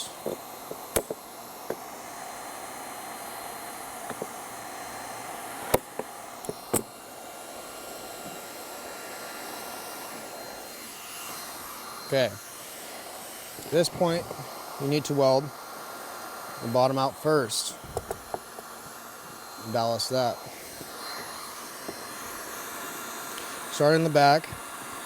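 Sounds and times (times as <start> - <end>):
heat gun blowing: 0.0 - 25.0.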